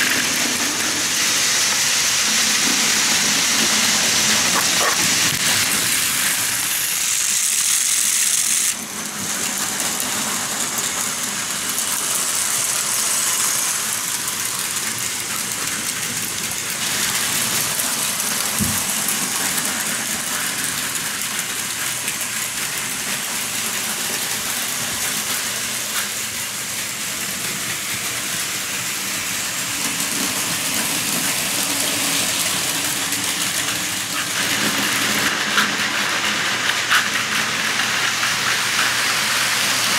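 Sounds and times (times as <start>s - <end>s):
toy train motors whirring: 0.0s - 39.9s
wheels rattling on plastic track: 0.0s - 39.9s.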